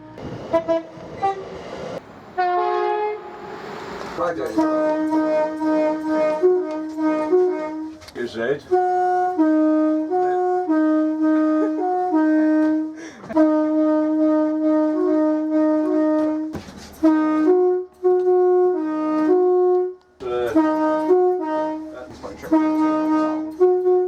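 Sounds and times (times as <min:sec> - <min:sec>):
train horn playing a tune: 0:00.0 - 0:01.6, 0:02.3 - 0:24.0.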